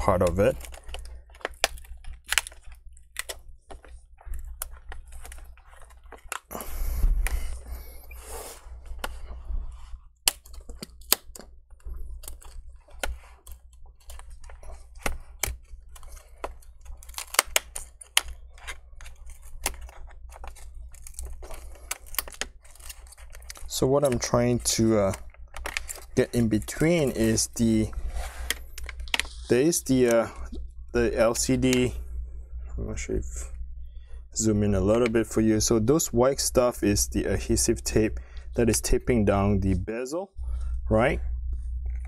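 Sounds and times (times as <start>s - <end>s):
rustling and scraping: 0.0s - 35.2s.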